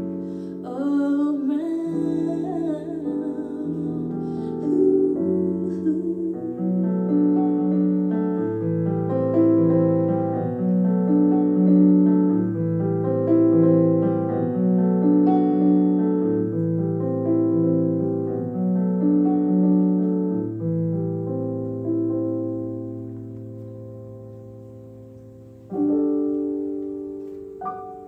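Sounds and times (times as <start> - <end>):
slow piano chords: 0.0 - 28.0.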